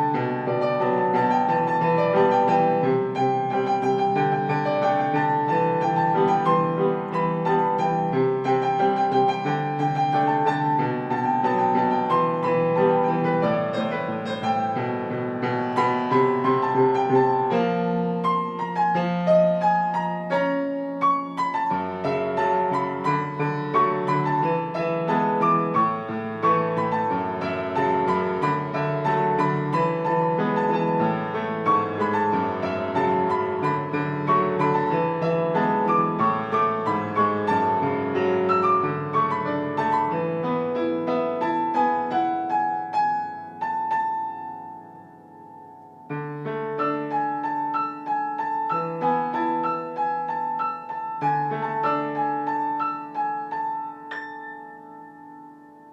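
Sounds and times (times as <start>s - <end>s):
solo piano playing: 0.0s - 55.9s.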